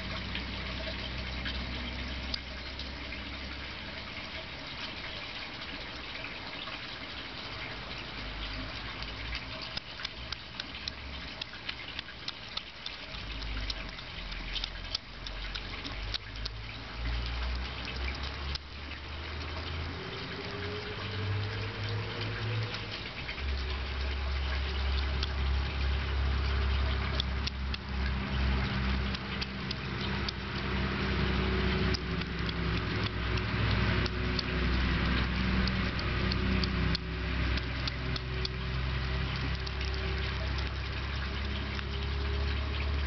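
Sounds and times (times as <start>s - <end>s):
low engine-like hum: 0.0s - 43.0s
hedgehog chewing: 8.2s - 43.0s.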